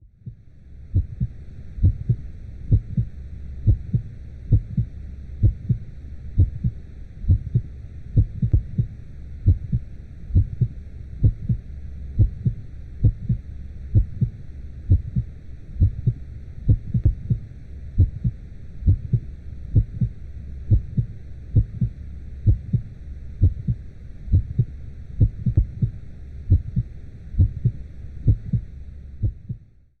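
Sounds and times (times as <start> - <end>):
muffled heartbeat double thumps: 0.1 - 29.7.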